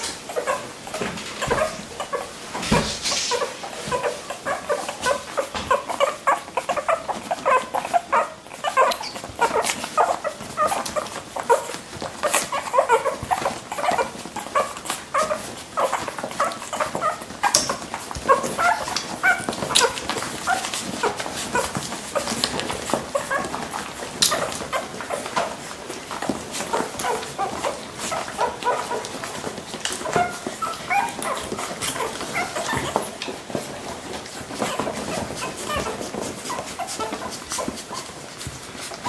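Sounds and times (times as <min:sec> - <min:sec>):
puppies whimpering and yipping: 0:00.0 - 0:39.0.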